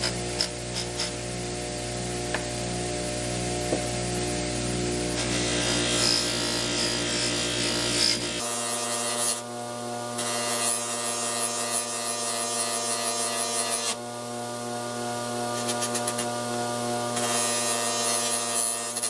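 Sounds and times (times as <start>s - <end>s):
bench grinder motor humming: 0.0s - 19.0s.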